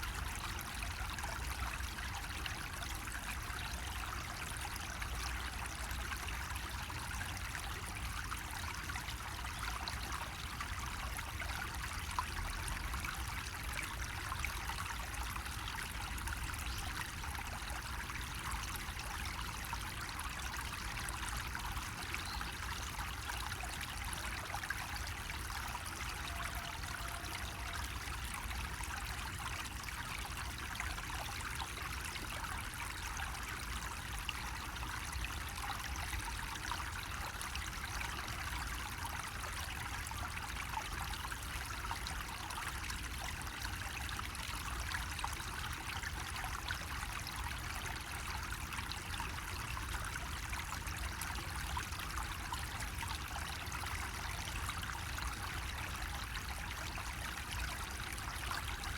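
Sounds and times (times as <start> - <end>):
water trickling from faucet: 0.0 - 58.9.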